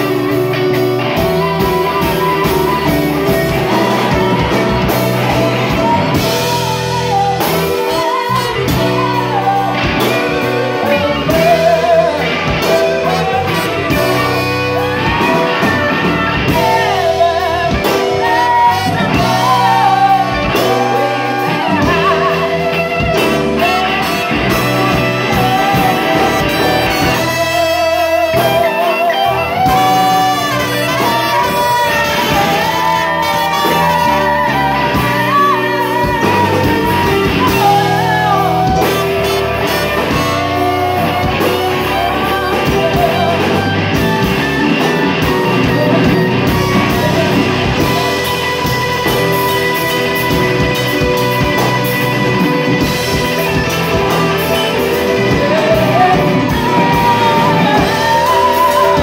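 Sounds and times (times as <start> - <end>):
drums: 0.0 - 59.0
guitar: 0.0 - 59.0
trumpet and saxophone horns: 0.0 - 59.0
woman singing into microphone: 1.4 - 59.0.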